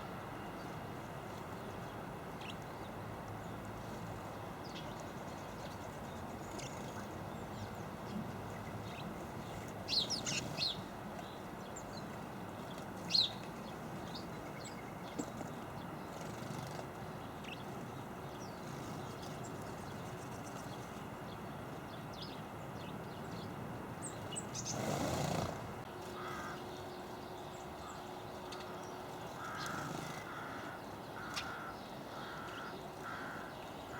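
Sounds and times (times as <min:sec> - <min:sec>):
birds chirping: 0:00.6 - 0:33.9.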